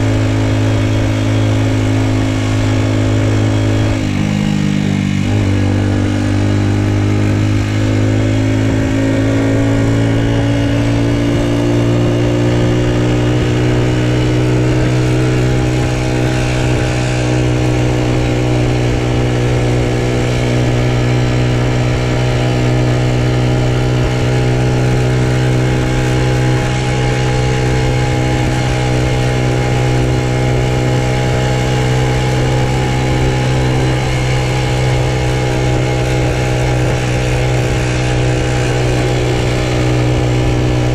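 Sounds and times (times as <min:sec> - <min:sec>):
motorbike engine running: 0:00.0 - 0:40.9.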